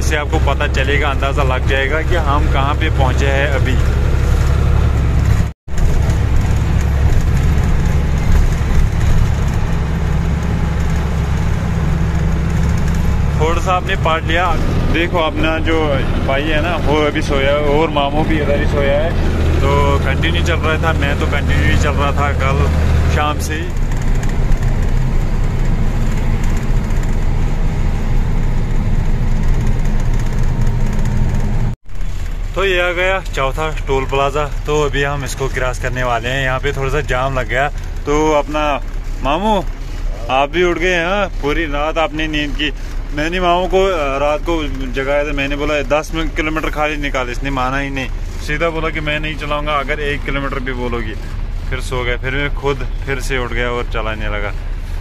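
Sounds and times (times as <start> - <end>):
road noise: 0.0 - 55.0
truck engine and tyre hum: 0.0 - 55.0.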